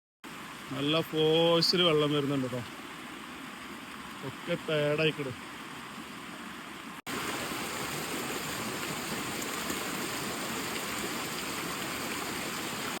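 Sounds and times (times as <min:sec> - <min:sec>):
fast-flowing water rushing: 0:00.2 - 0:13.0.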